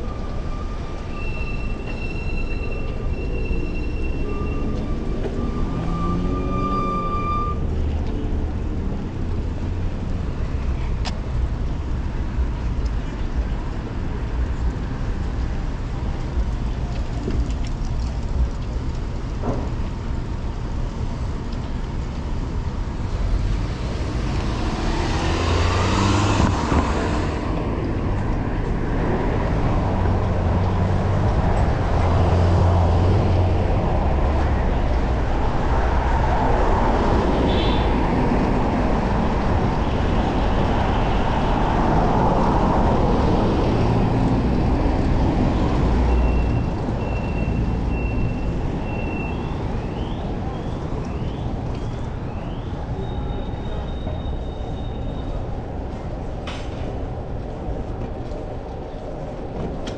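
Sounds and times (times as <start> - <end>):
vehicles passing close by: 0.0 - 59.9.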